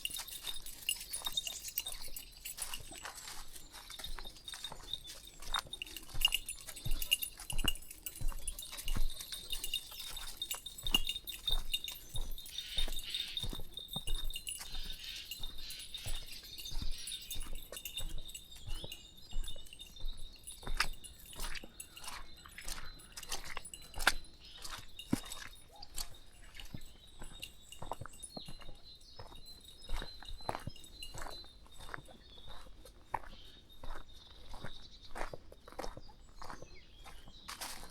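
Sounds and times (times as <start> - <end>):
footsteps crunching on a path: 0.0 - 37.9
light metallic tinkling: 0.0 - 37.9.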